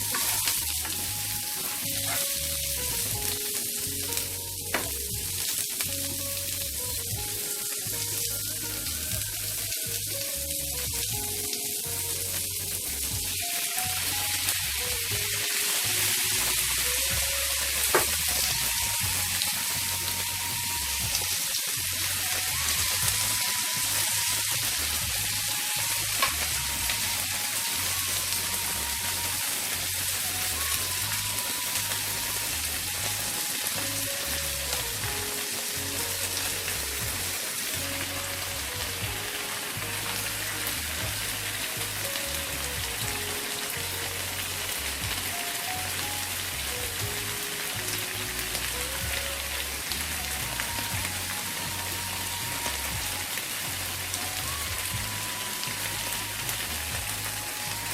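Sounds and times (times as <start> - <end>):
food sizzling in oil: 0.0 - 57.9
quiet background music: 0.0 - 57.9.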